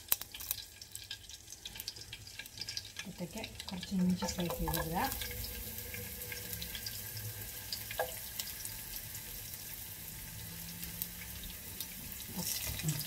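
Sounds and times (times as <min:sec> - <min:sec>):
ginger sizzling in oil: 0:00.0 - 0:13.0.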